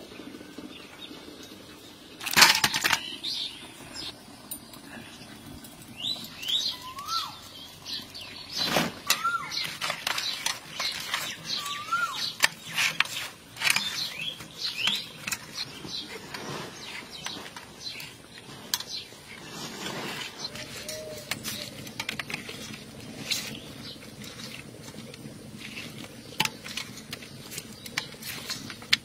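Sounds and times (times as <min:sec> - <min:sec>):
small birds chirping: 0:03.0 - 0:29.0.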